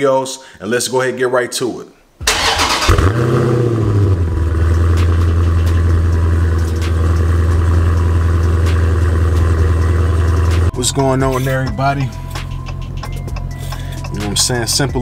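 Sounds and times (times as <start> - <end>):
car engine starting and idling: 2.2 - 14.9.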